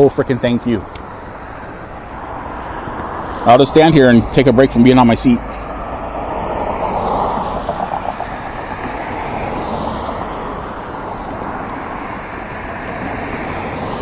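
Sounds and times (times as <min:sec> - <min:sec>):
vehicle engine noise: 0:00.0 - 0:14.0
tyres hissing on wet road: 0:01.0 - 0:14.0.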